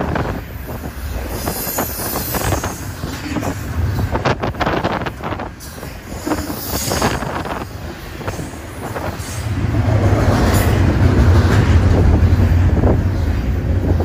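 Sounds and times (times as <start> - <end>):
train cars rolling on rails: 0.0 - 14.0.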